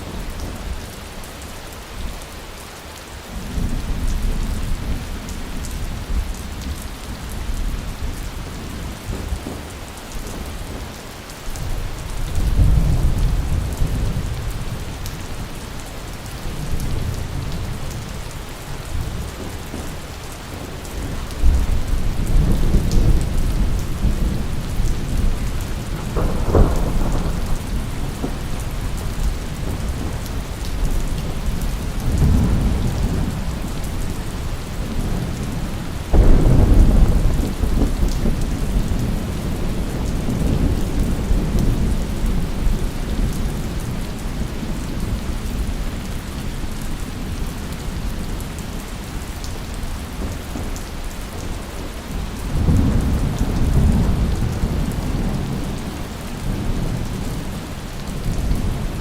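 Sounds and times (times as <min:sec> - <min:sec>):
steady rain: 0:00.0 - 0:59.0
thunder rumbling: 0:08.0 - 0:48.5, 0:51.8 - 0:59.0.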